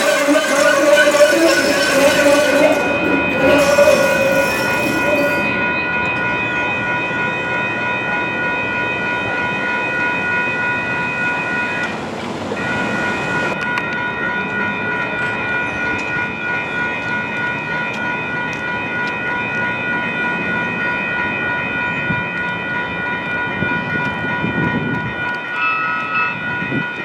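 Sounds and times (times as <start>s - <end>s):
light rail train rumbling: 0.0s - 27.0s
steady high tones: 0.0s - 27.0s.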